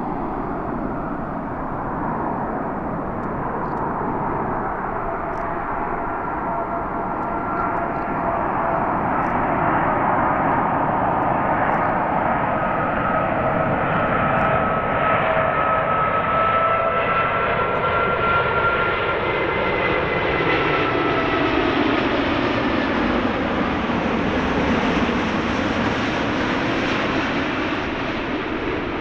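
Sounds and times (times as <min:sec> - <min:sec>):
jet airliner landing: 0:00.0 - 0:29.0.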